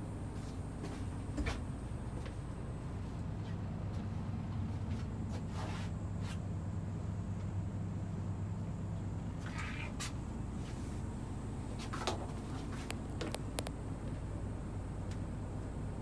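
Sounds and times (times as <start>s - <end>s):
diesel bus engine idling: 0.0s - 16.0s.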